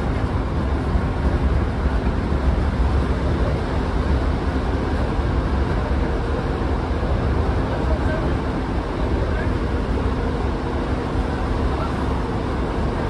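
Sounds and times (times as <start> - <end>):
deep diesel engine rumble: 0.0 - 13.0.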